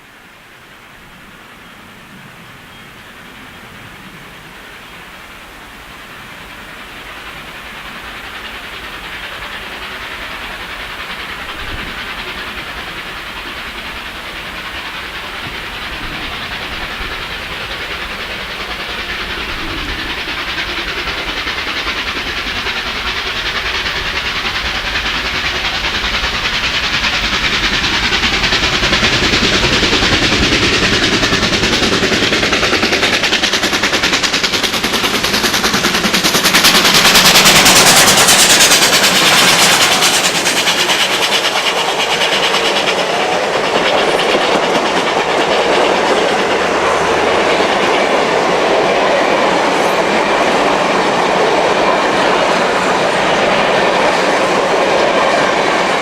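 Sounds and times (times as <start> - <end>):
steam locomotive exhaust: 0.0 - 56.0
train on the rails: 0.0 - 56.0.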